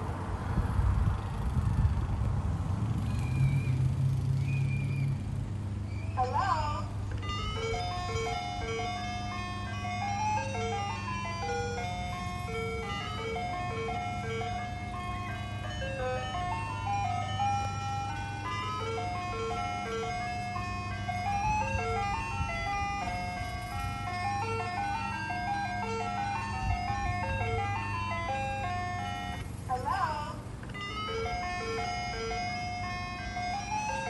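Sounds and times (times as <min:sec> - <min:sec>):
ice cream truck jingle: 0:02.9 - 0:34.0.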